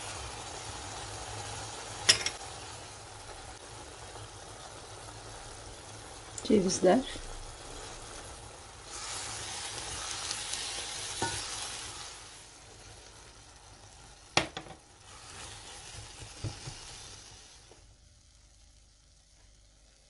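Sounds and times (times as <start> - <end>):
filling sizzling in a pot: 0.0 - 20.0.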